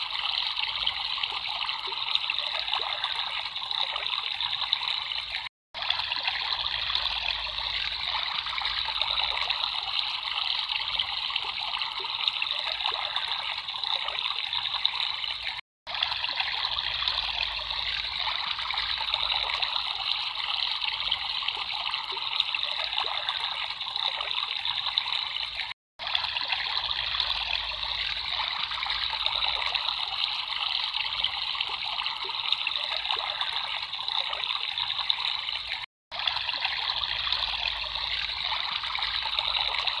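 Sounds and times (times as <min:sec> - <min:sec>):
water trickling: 0:00.0 - 0:40.0.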